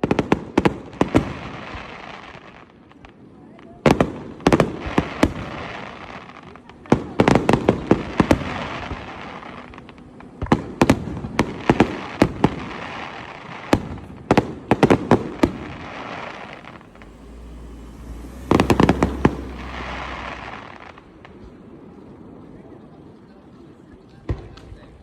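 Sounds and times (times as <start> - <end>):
fireworks bangs: 0.0 - 22.6.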